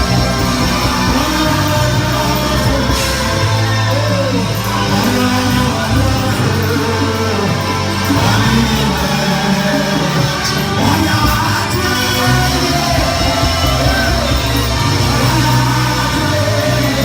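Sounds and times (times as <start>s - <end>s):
bass line: 0.0s - 17.0s
gospel band playing: 0.0s - 17.0s
guitar: 0.0s - 17.0s
people singing: 0.0s - 17.0s.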